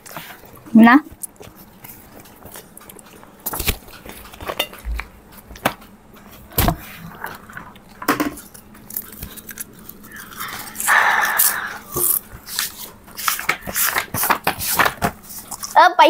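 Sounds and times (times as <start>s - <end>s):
book pages flipping: 0.0s - 15.8s.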